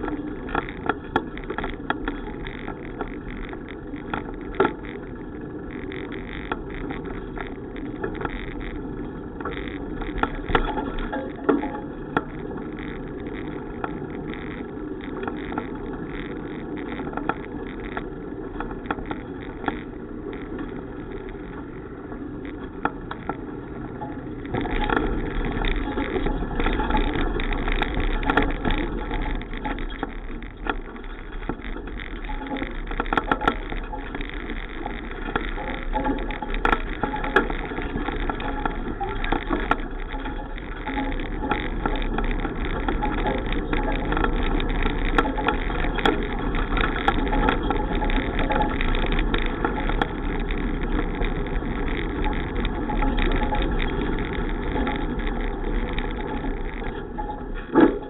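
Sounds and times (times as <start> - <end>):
bicycle clicks and rattles: 0.0 - 58.0
wind and road noise: 0.0 - 58.0.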